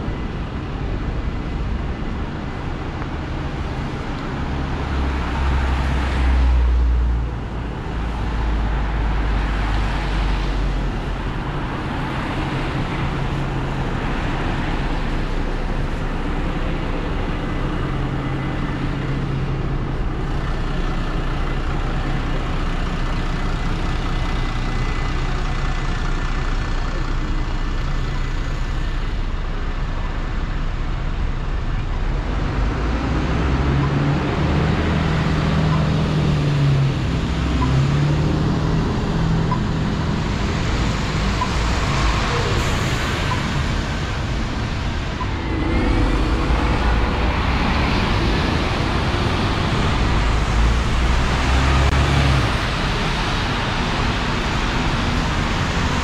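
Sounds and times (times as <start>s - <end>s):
heavy vehicle engine rumble: 0.0s - 56.0s
traffic passing: 0.0s - 56.0s.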